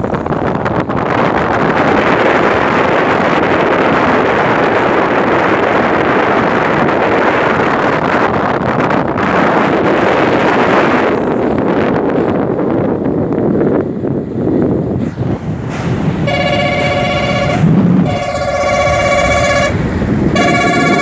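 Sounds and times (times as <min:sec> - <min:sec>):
wind rushing across microphone: 0:00.0 - 0:21.0.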